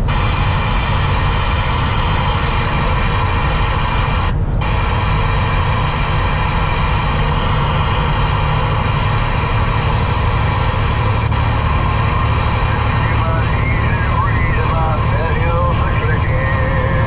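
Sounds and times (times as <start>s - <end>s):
road noise hiss: 0.0s - 17.0s
truck diesel engine drone: 0.0s - 17.0s.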